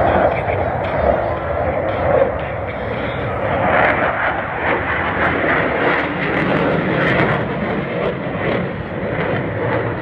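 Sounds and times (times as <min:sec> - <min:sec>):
jet engine noise: 0:00.0 - 0:10.0.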